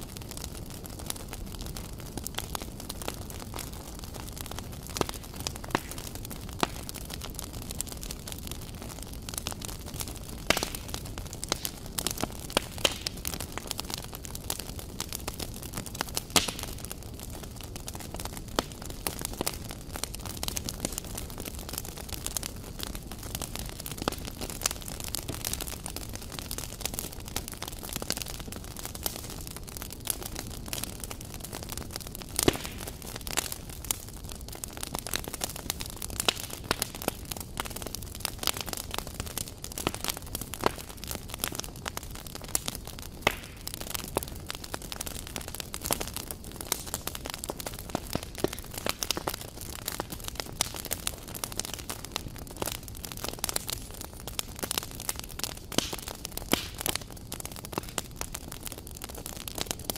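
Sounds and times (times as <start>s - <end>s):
steady fire hiss: 0.0s - 59.9s
wood fire crackling: 0.0s - 59.9s
sharp pops of fire: 2.2s - 59.9s.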